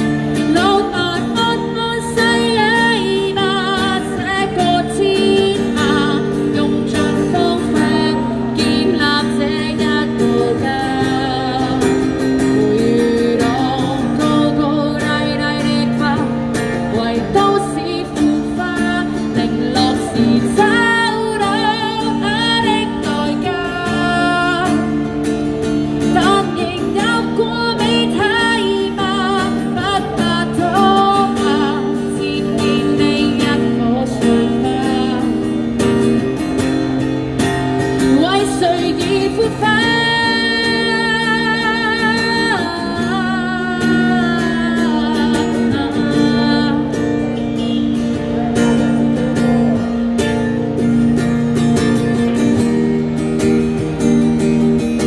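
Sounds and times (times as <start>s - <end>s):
woman singing with vibrato: 0.0s - 36.3s, 38.0s - 51.0s
strummed acoustic guitar: 0.0s - 55.0s.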